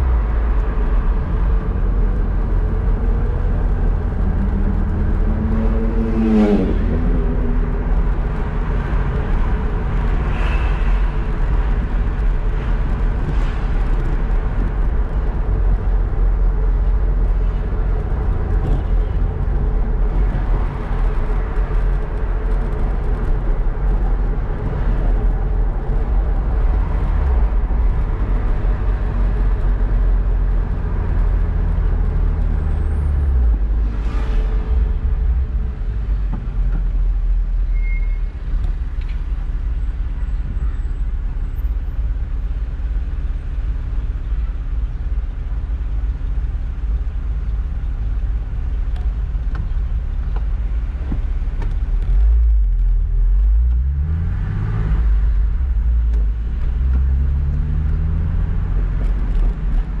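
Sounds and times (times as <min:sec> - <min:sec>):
car engine and road noise: 0:00.0 - 1:00.0.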